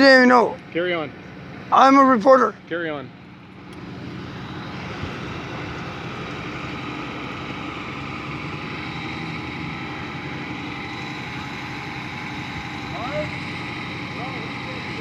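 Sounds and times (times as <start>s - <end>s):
road and wind noise: 0.0s - 15.0s
vehicle engine running: 0.0s - 15.0s.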